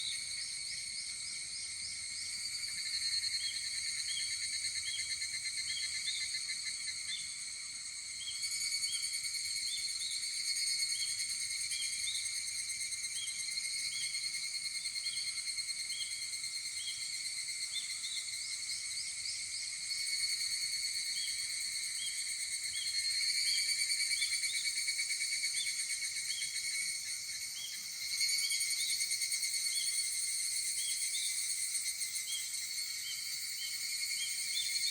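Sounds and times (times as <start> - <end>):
cicadas trilling in chorus: 0.0 - 34.9.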